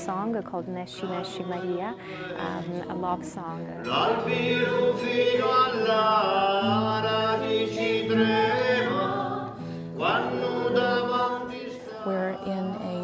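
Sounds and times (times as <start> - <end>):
choir singing long held notes: 1.0 - 3.0, 3.8 - 13.0.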